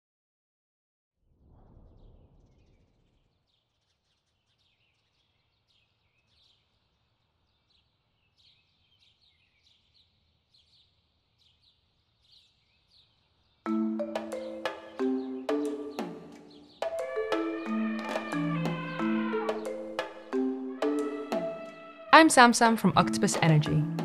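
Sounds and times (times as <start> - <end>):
birds chirping: 3.1 - 24.0.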